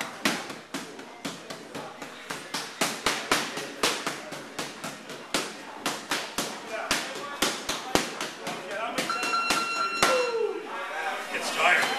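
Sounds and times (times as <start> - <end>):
boxing gloves slapping mitts: 0.0 - 10.2.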